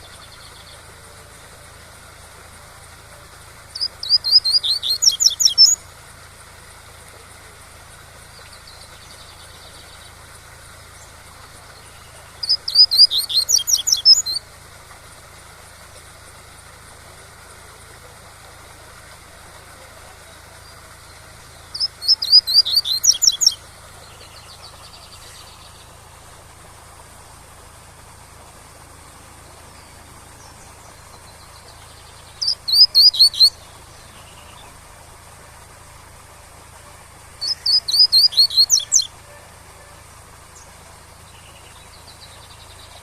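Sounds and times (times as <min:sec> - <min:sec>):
bird singing: 0:00.0 - 0:15.4, 0:16.0 - 0:43.0.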